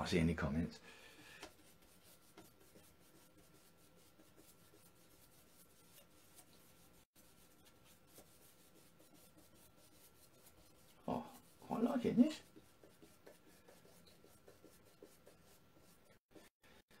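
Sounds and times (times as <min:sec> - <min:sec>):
paintbrush scratching on paper: 0:01.1 - 0:16.6.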